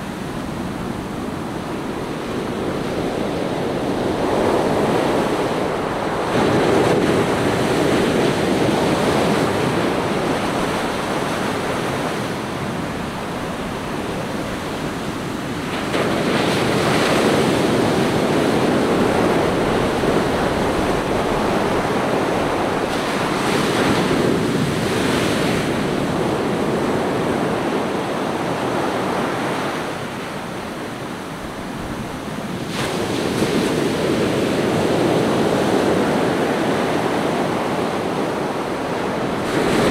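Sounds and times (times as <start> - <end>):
waves breaking on sandy beach: 0.0 - 39.9.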